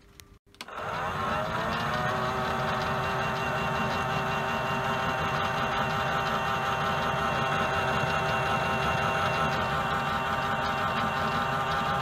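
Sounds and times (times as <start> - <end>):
toy washing machine motor whine: 0.6 - 12.0.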